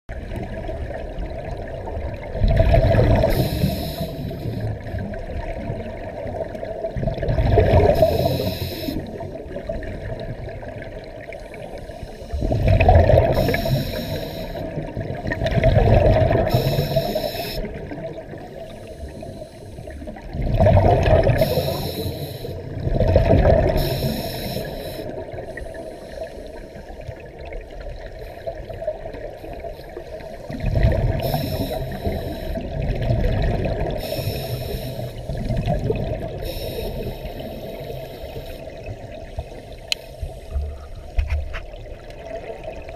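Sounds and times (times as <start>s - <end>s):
scuba regulator bubbling underwater: 0.1s - 42.9s.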